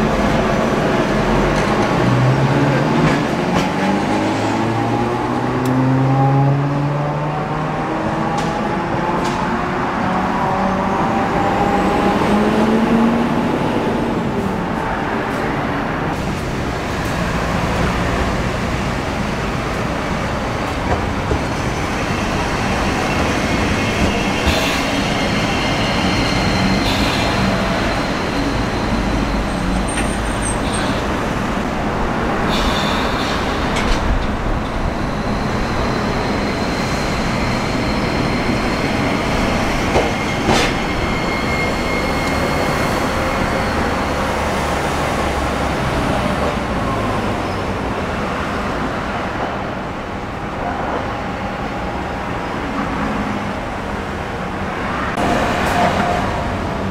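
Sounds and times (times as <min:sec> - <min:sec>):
tram motor high whine: 0:00.0 - 0:56.9.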